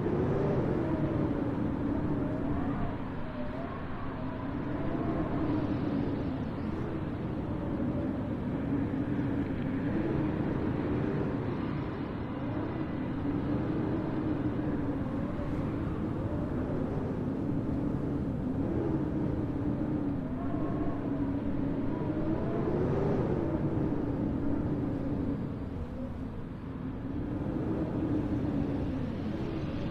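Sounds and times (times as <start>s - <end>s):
howling blizzard wind: 0.0s - 29.9s.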